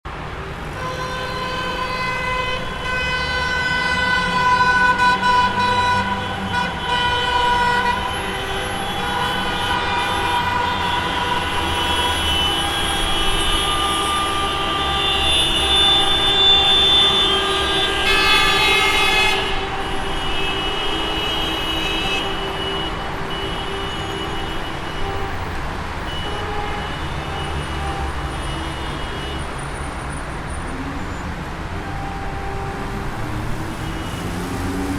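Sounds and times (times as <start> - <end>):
engines and passing cars rumbling: 0.0 - 34.9
car horns honking: 0.1 - 34.9.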